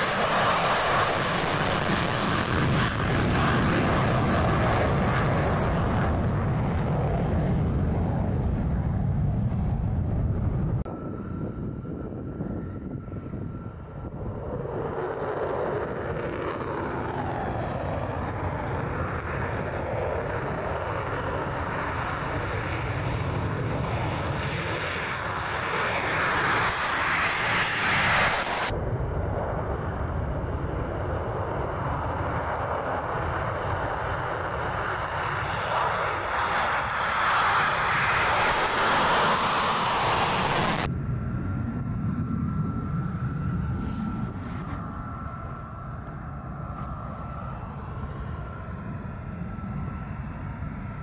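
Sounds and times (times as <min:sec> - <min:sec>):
jet engine roar at takeoff: 0:00.0 - 0:51.0.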